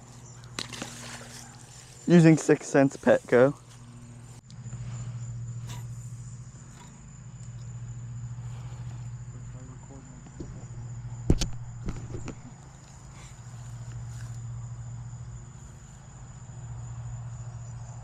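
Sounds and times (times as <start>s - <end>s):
insects trilling: 0.0s - 18.0s
low steady hum: 0.0s - 18.0s.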